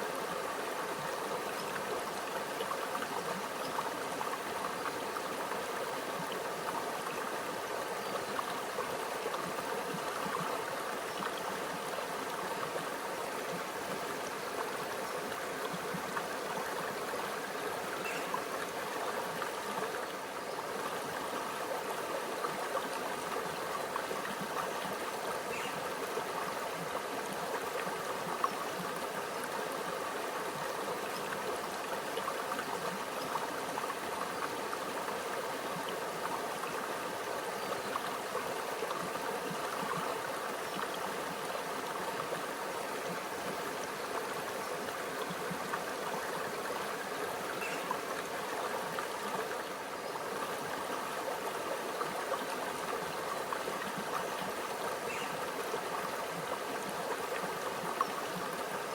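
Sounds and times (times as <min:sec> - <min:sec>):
stream gurgling over rocks: 0:00.0 - 0:58.9.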